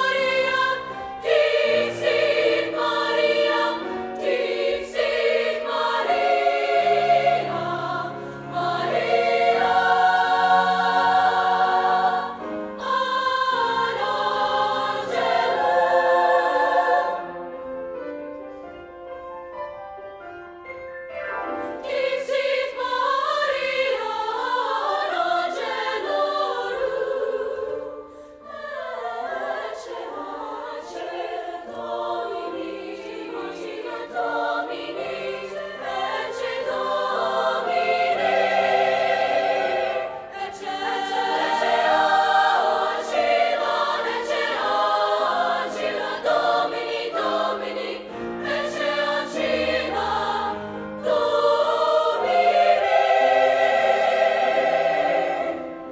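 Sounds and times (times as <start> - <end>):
choir singing in harmony: 0.0 - 55.9.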